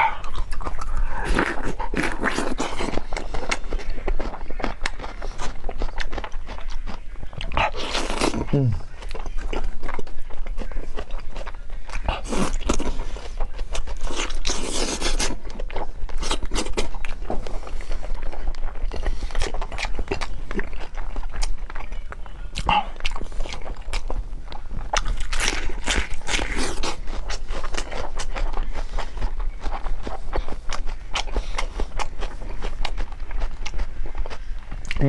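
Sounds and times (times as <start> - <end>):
wet chewing and mouth noises: 0.0 - 35.0.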